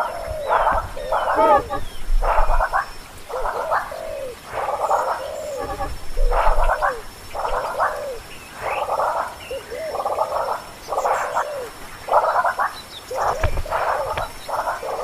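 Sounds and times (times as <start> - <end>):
rattling animal calls: 0.0 - 9.3, 12.2 - 15.0.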